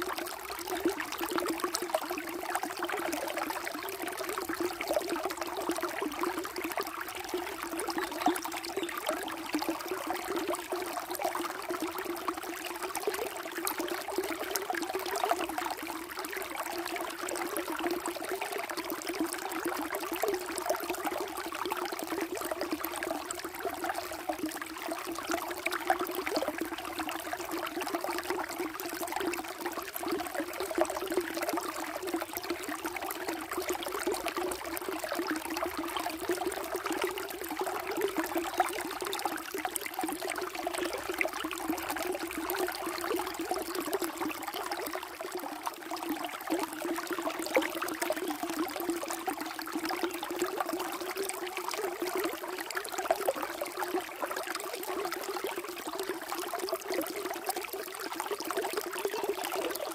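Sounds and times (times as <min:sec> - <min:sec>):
water babbling and trickling: 0:00.0 - 0:59.9.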